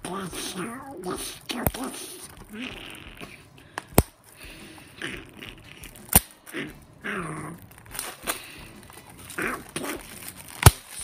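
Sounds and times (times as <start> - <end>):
wordless vocal sounds: 0.0 - 11.0
fingers picking at shrink wrap: 0.1 - 11.0.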